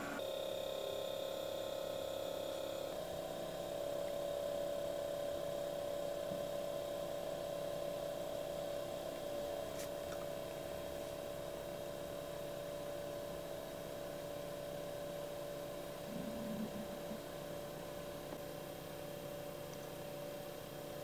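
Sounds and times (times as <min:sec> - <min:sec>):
fridge compressor humming: 0:00.0 - 0:21.0.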